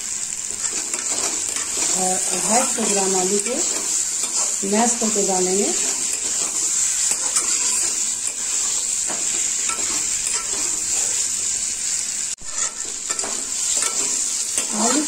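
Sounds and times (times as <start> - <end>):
potatoes sizzling in a pan: 0.0 - 15.0
metal spatula scraping a pan: 0.4 - 11.4, 12.4 - 15.0.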